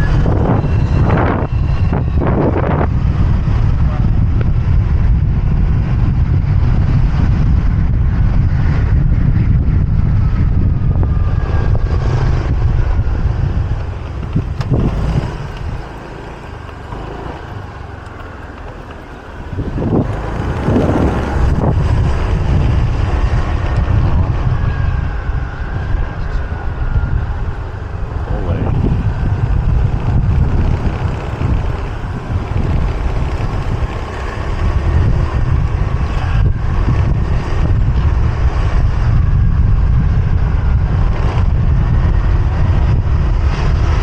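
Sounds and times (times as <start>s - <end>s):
motorbike engine: 0.0s - 44.0s
street traffic: 0.0s - 44.0s
wind rushing over microphone: 0.0s - 44.0s.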